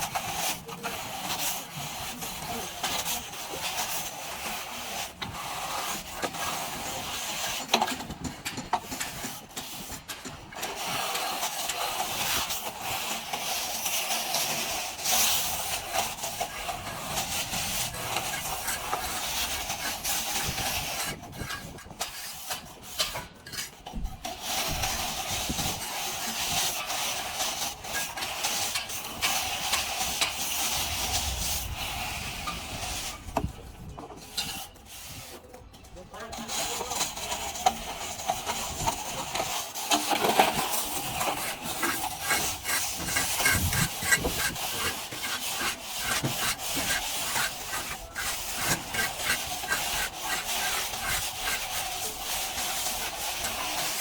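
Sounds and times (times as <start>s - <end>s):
trowel scraping plastered wall: 0.0s - 54.0s.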